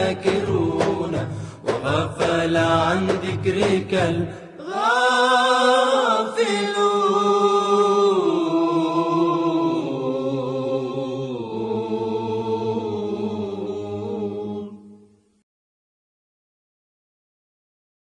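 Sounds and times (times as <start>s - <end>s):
wordless sung vocals: 0.0s - 15.4s.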